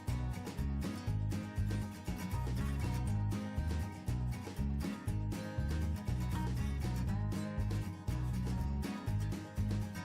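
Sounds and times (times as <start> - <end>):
country guitar music with beat: 0.0 - 10.0.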